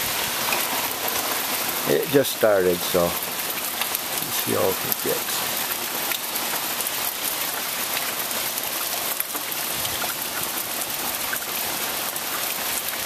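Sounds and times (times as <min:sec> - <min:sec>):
heavy rain: 0:00.0 - 0:13.0
raindrops ticking close by: 0:00.0 - 0:13.0.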